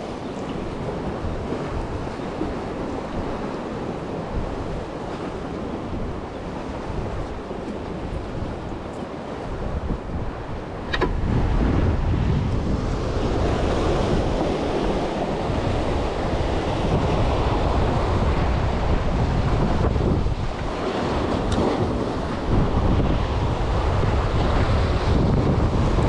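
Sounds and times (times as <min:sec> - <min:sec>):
sea surf: 0:00.0 - 0:26.0
wind buffeting microphone: 0:00.0 - 0:26.0.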